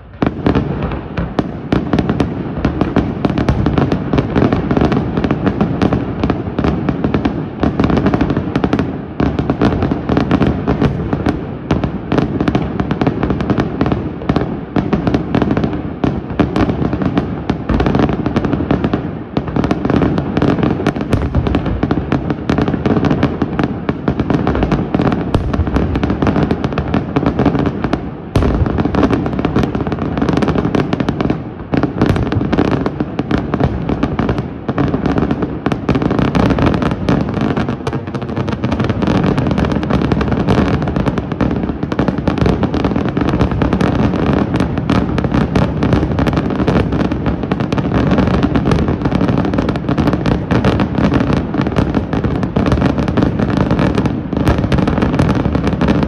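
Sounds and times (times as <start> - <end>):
fireworks bursts and crackles: 0.0 - 56.0.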